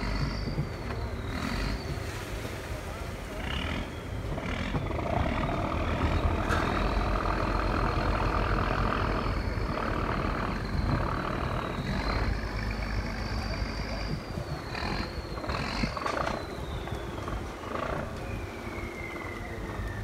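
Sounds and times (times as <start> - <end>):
diesel boat engine rumbling: 0.0 - 20.0
high engine whine: 0.0 - 20.0.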